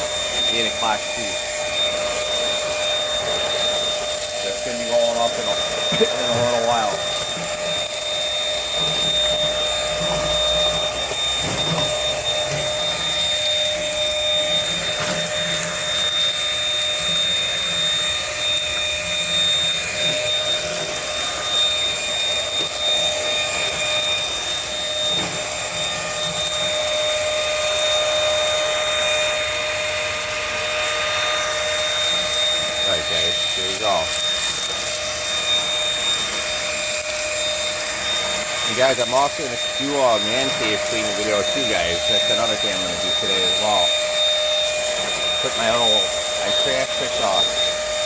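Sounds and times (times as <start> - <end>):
stick vacuum running: 0.0 - 48.0.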